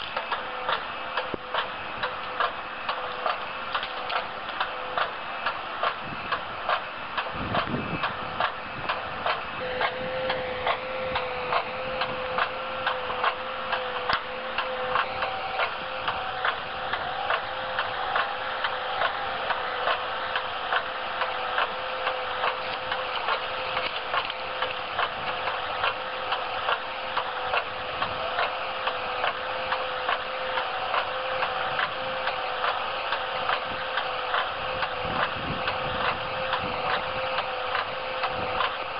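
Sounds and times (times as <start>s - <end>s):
hydraulic cutter clacking: 0.0s - 38.9s
steady hydraulic whine: 0.0s - 38.9s.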